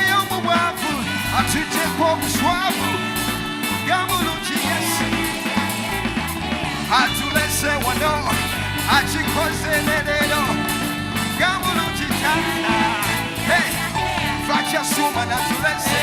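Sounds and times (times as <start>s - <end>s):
drums: 0.0s - 16.0s
live band playing: 0.0s - 16.0s
person singing: 0.0s - 16.0s
steady bass line: 0.0s - 16.0s.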